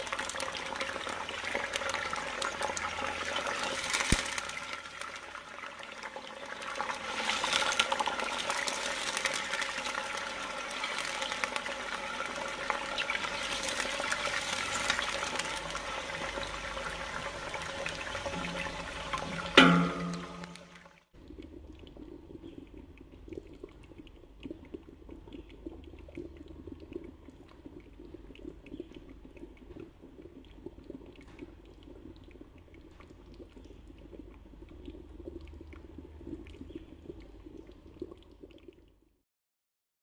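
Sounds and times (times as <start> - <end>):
curry bubbling in a pot: 0.0 - 39.2.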